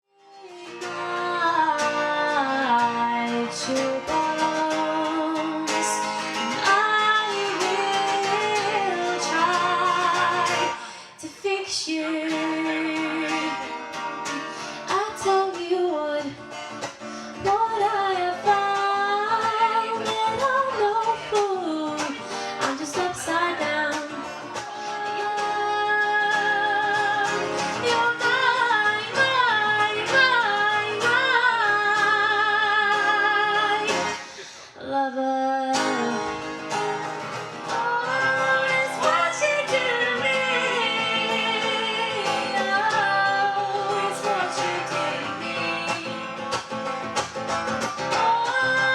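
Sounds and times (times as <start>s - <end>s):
woman singing with vibrato: 0.2s - 16.6s, 17.3s - 46.5s, 48.0s - 48.9s
strummed acoustic guitar: 0.2s - 34.8s, 35.6s - 48.9s.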